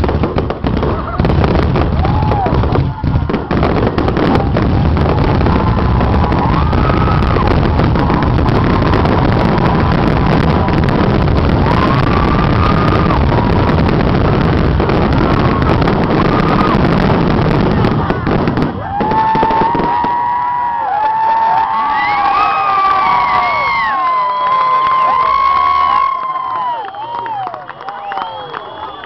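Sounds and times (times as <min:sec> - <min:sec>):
fireworks booming and crackling: 0:00.0 - 0:29.0
firework whistles: 0:00.9 - 0:17.3, 0:20.9 - 0:29.0.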